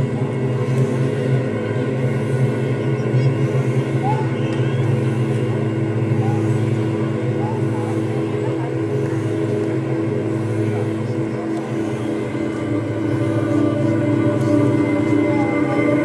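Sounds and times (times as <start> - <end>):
ambient electric guitar drone music: 0.0 - 16.0.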